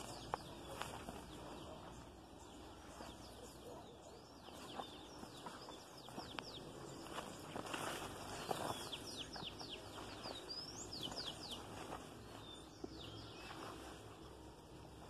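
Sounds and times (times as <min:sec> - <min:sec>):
rustle of plants: 0:00.0 - 0:03.4, 0:04.4 - 0:15.0
small birds chirping: 0:00.0 - 0:15.0.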